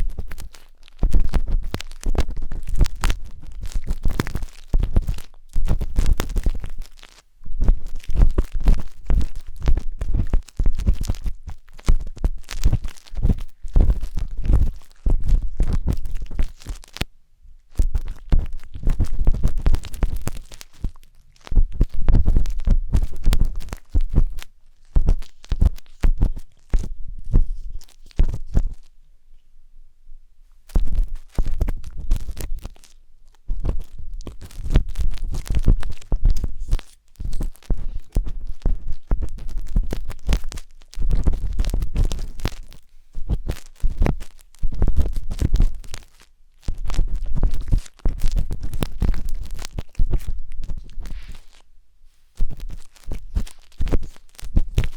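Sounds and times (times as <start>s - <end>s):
wooden skewer scraping microphone: 0.0s - 17.0s, 17.7s - 28.9s, 30.7s - 32.9s, 33.5s - 51.6s, 52.2s - 54.9s.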